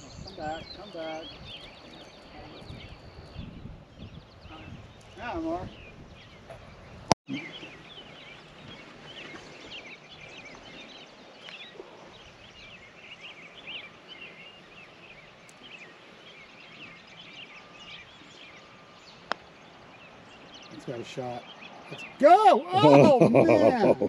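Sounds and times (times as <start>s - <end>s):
birds chirping: 0.0s - 24.0s
faint outdoor ambience: 0.0s - 24.0s.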